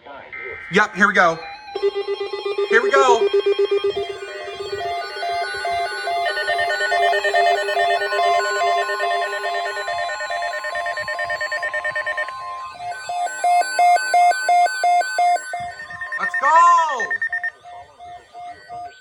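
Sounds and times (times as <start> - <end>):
electronic alarm beeps: 0.4 - 19.0
steady alarm tones: 0.6 - 19.0
long warning alarm tone: 0.9 - 19.0.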